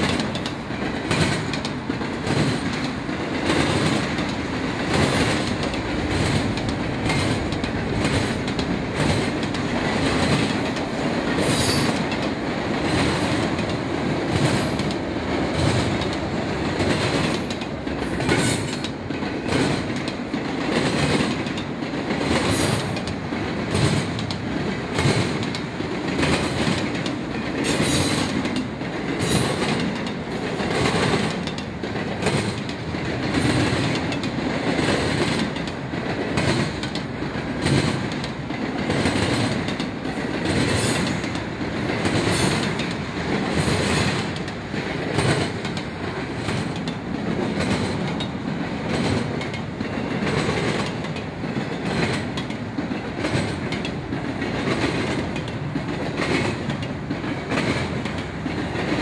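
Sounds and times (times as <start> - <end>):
train rumble: 0.0 - 59.0
train wheels clacking on track: 0.0 - 59.0.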